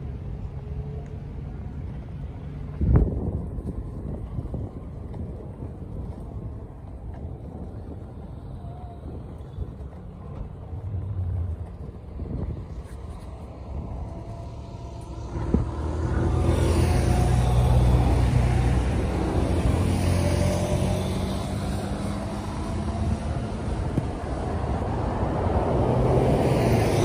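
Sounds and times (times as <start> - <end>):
passing vehicle engine rumble: 0.0 - 27.0.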